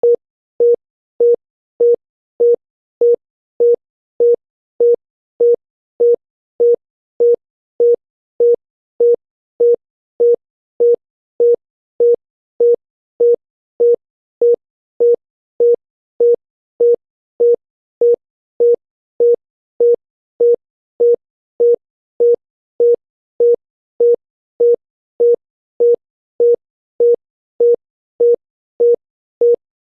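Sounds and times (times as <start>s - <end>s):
telephone busy tone beeps: 0.0s - 29.6s.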